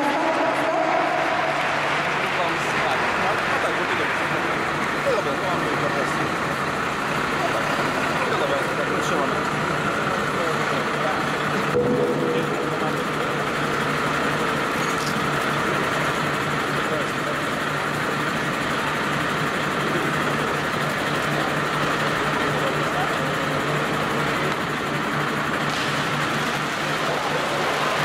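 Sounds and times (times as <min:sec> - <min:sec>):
truck diesel engine humming: 0:00.0 - 0:28.0.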